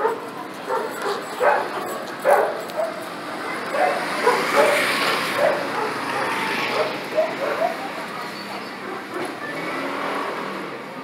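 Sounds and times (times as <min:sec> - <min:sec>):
dogs barking: 0:00.0 - 0:09.4
vehicle passing: 0:00.7 - 0:11.0.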